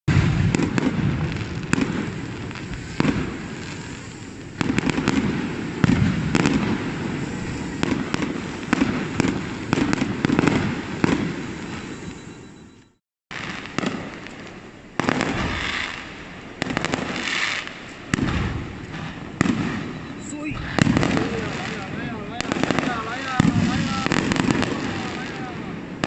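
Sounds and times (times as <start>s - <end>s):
fireworks crackling and banging: 0.1s - 26.0s.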